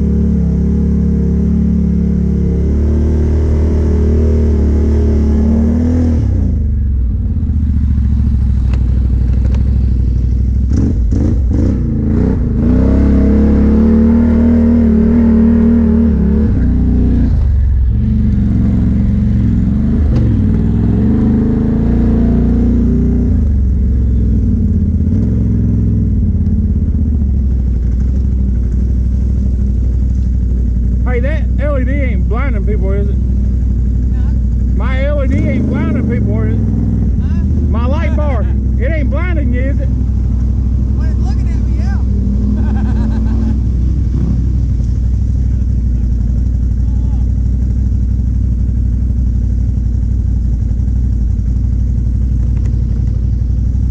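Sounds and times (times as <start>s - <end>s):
atv engine revving: 0.0s - 53.9s.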